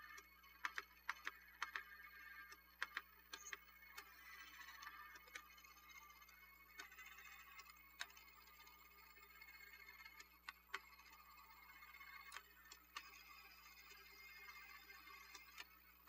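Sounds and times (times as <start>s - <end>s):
faint motor whir: 0.0s - 16.0s
toy robot arm gears clicking: 0.0s - 16.0s.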